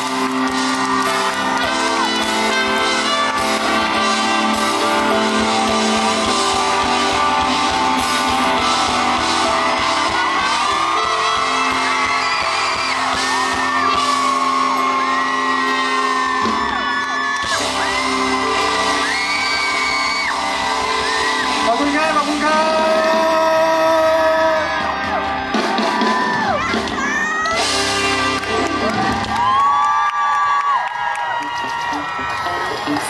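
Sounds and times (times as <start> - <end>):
fans screaming: 0.0 - 33.0
live band playing chords: 0.0 - 33.0.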